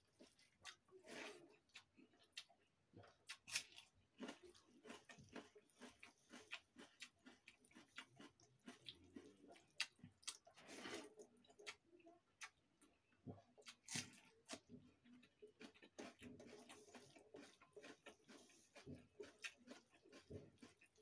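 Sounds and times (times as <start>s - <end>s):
wet chewing and mouth clicks: 0.0s - 21.0s
fingers squishing rice on plate: 0.1s - 21.0s.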